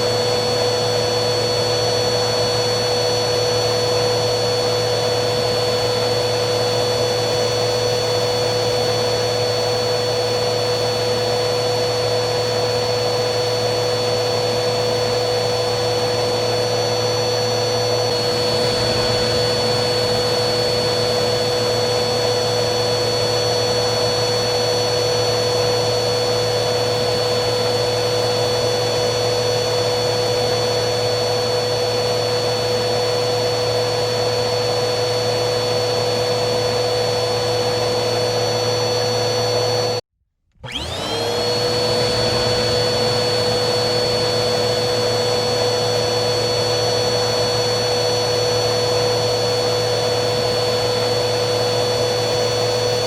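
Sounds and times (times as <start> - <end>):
vacuum cleaner motor running: 0.0 - 53.0.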